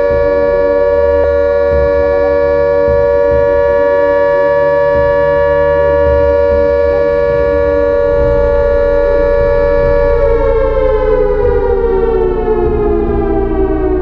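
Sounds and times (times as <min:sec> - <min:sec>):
air-raid siren: 0:00.0 - 0:14.0.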